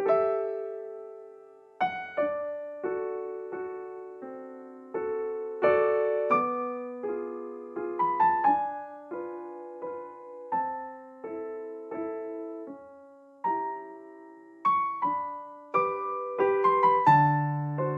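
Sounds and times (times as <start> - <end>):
slow gentle piano music: 0.0 - 17.9.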